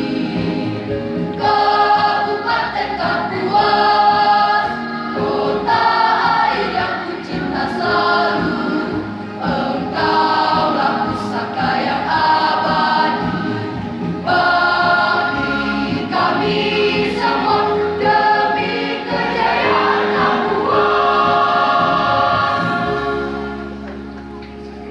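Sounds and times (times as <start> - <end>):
children's choir singing: 0.0 - 24.1
keyboard accompaniment: 0.0 - 24.9.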